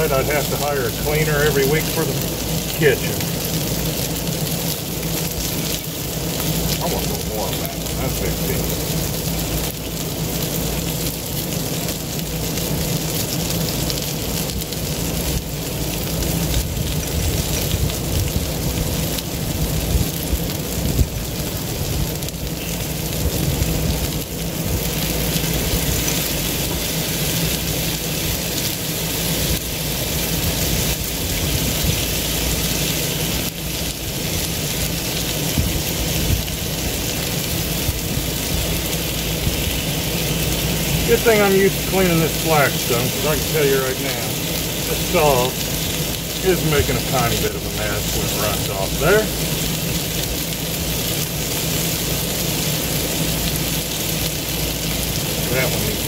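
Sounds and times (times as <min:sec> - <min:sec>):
low rumble: 0:00.0 - 0:54.2
meat sizzling on a griddle: 0:00.0 - 0:56.0.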